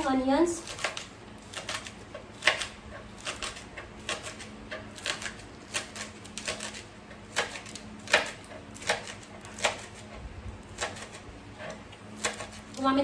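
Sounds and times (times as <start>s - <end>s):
knife chopping on cutting board: 0.6s - 12.7s.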